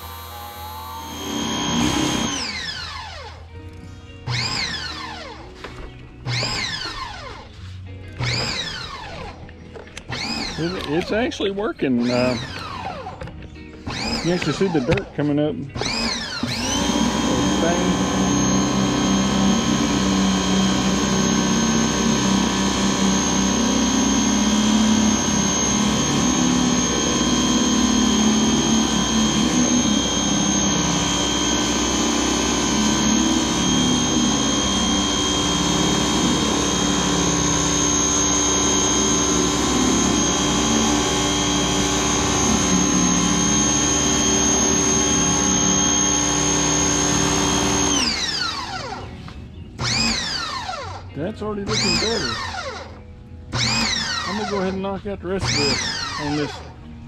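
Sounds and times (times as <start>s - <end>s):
pressure washer motor whine: 0.0s - 57.0s.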